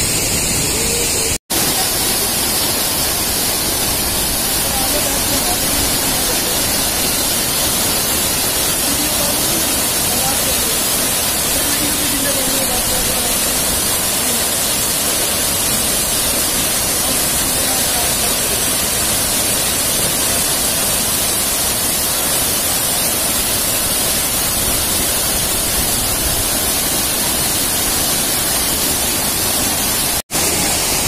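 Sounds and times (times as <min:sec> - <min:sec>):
waterfall rushing into a pool: 0:00.0 - 0:31.0.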